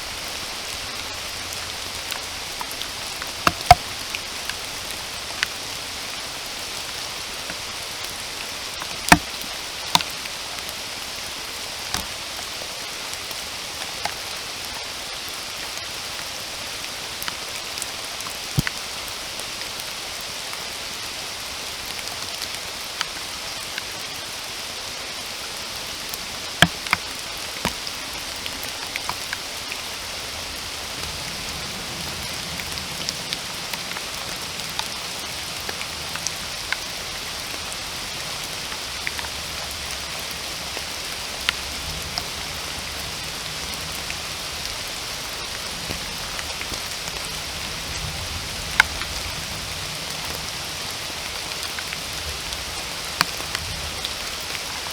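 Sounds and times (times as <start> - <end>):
large raindrops tapping: 0.0 - 19.9, 20.8 - 54.9
steady rain hiss: 0.0 - 54.9.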